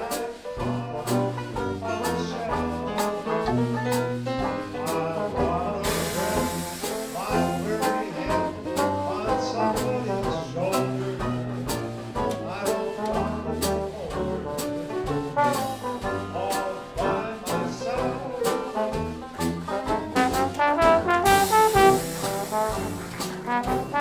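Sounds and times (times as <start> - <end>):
dixieland jazz band playing: 0.0 - 24.0
trombone: 0.0 - 24.0
trumpet: 0.0 - 24.0.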